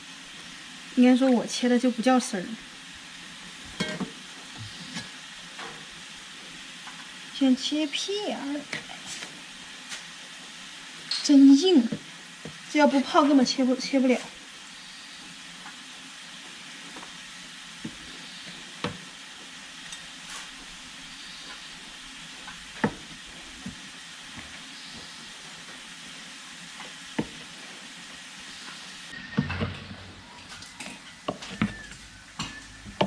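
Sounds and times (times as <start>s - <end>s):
rain hissing: 0.0s - 33.0s.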